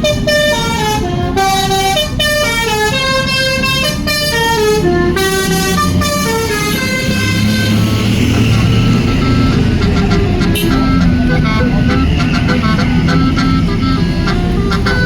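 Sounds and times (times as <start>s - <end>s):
bus air horns playing a tune: 0.0s - 15.0s
bus engine rumble: 0.0s - 15.0s.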